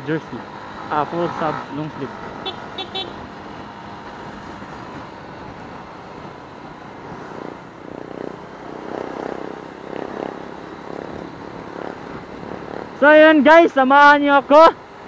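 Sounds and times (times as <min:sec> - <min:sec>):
road and wind noise: 0:00.0 - 0:15.0
scooter engine drone: 0:00.3 - 0:13.3.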